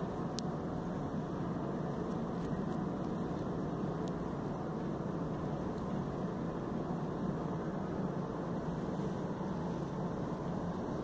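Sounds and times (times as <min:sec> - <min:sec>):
city noise hum: 0:00.0 - 0:11.0.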